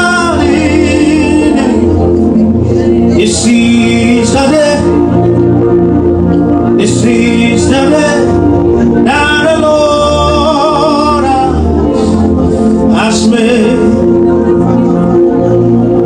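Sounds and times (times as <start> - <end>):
person singing: 0.0 - 5.6, 6.2 - 16.0
bass: 0.0 - 16.0
sustained keyboard chords: 0.0 - 16.0.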